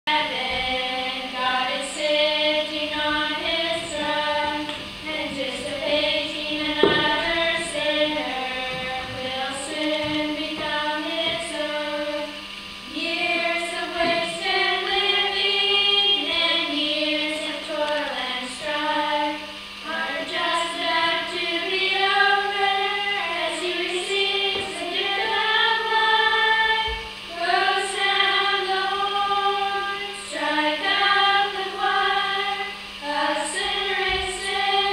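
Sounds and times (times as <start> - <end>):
boys and woman singing: 0.1 - 34.9.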